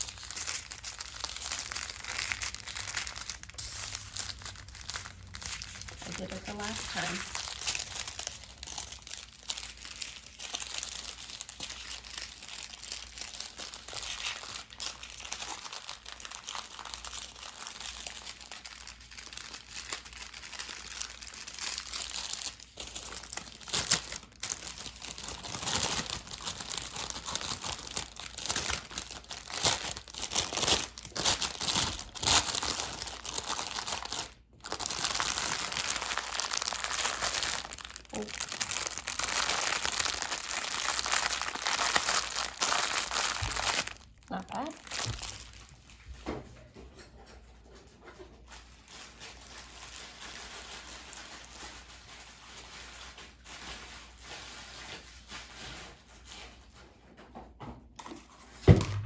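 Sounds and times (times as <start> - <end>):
plastic bags crinkling: 0.0 - 46.2, 48.4 - 56.7.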